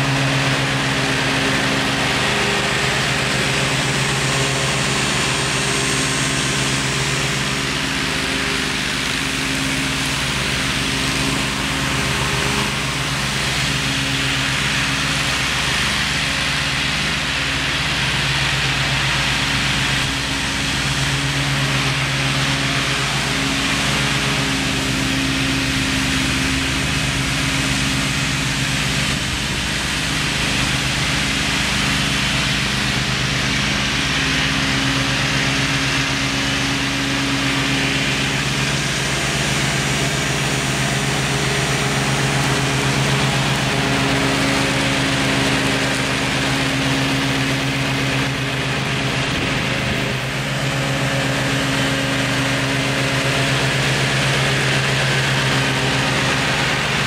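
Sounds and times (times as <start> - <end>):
mower engine hum: 0.0 - 57.0.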